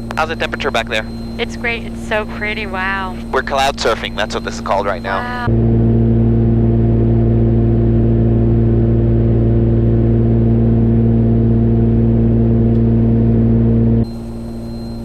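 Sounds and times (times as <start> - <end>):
airplane engines droning in cabin: 0.0 - 15.0.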